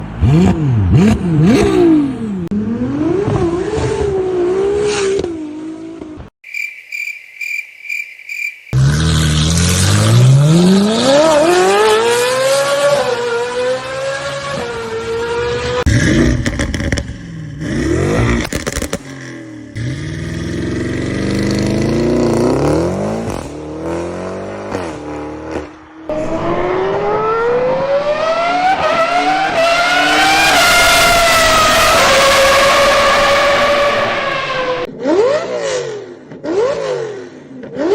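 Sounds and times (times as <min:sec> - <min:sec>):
car engines revving hard: 0:00.0 - 0:06.2, 0:08.8 - 0:37.9.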